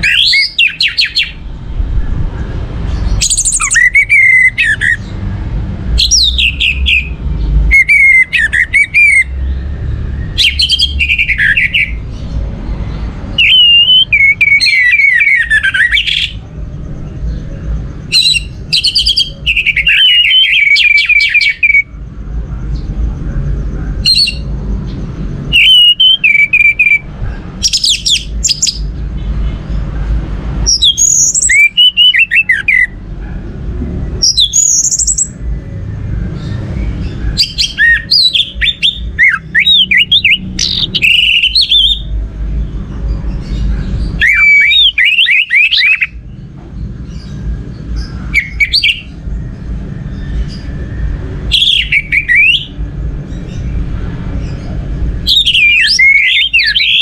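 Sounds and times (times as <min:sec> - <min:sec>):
thrush singing whistled trills: 0:00.0 - 0:01.4, 0:02.6 - 0:05.2, 0:05.9 - 0:22.0, 0:24.0 - 0:29.8, 0:30.6 - 0:33.0, 0:34.2 - 0:42.2, 0:43.1 - 0:57.0
steady low rumble: 0:00.0 - 0:31.6, 0:32.5 - 0:45.0, 0:45.9 - 0:57.0.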